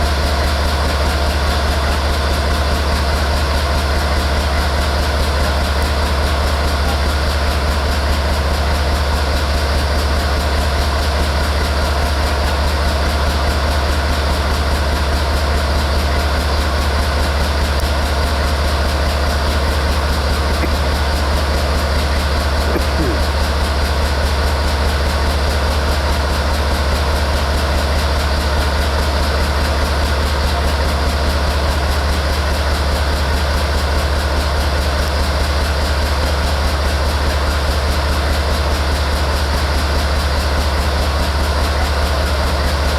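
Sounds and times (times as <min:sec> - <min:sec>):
diesel locomotive engine idling: 0:00.0 - 0:42.9.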